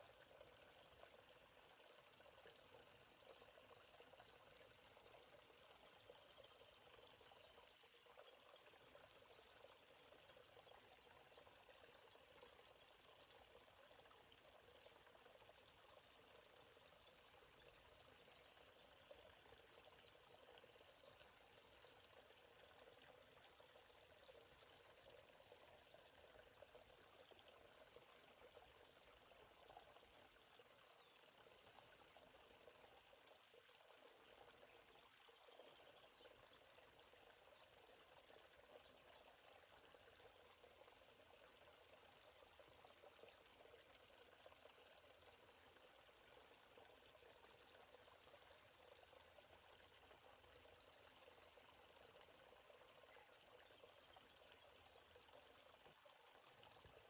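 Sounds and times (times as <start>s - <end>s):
insects chirring: 0.0s - 57.0s
stream running water: 0.0s - 57.0s.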